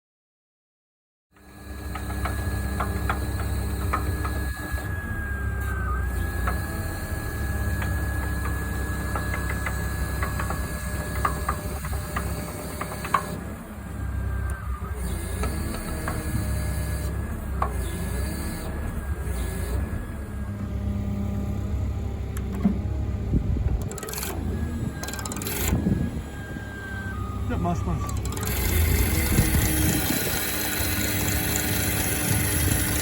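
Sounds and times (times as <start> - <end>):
machine engine drone: 1.4 - 33.0.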